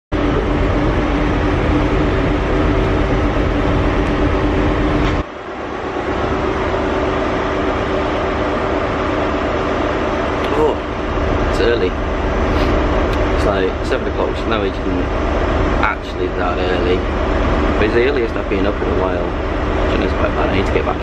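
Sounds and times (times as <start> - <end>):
train carriage running rumble: 0.1 - 21.0.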